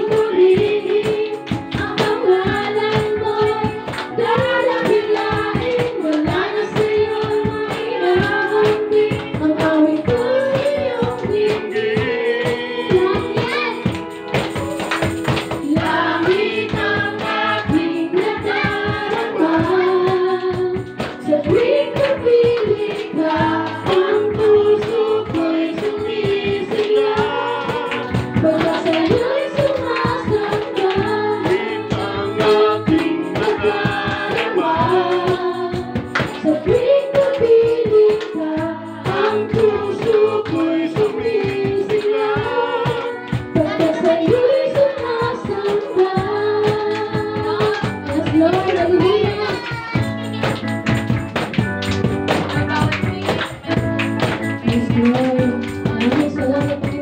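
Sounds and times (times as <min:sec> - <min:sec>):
group singing a worship song: 0:00.0 - 0:49.9, 0:52.3 - 0:57.0
band accompaniment with beat: 0:00.0 - 0:57.0.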